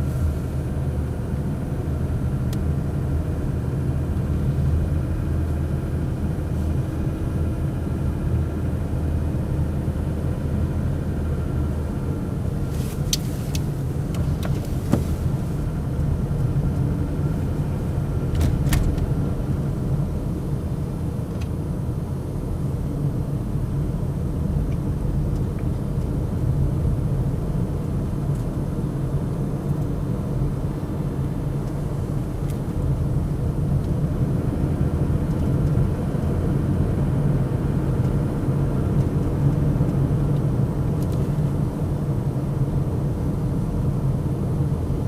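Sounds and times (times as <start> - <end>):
car engine running with low drone: 0.0 - 45.0.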